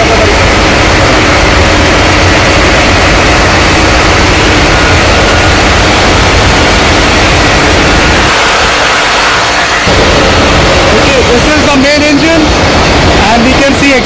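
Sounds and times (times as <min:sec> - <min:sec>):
engine room machinery din: 0:00.0 - 0:14.0.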